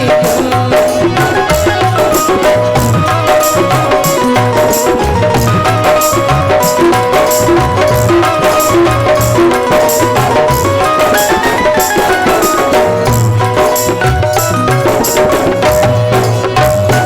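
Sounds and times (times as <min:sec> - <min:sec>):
hand drum beat: 0:00.0 - 0:17.0
jingling percussion: 0:00.0 - 0:17.0
melody instrument: 0:00.0 - 0:17.0.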